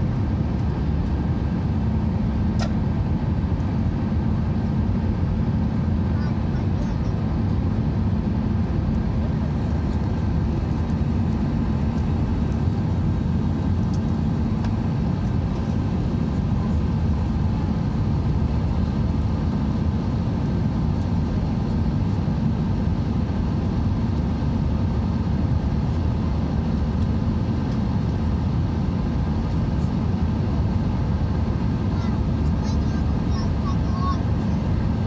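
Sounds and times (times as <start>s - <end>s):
jet engine cabin drone: 0.0s - 35.0s.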